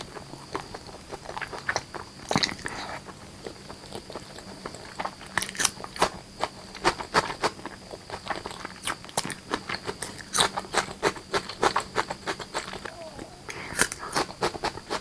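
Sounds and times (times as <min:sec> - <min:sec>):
wet chewing and lip-smacking: 0:00.2 - 0:15.0.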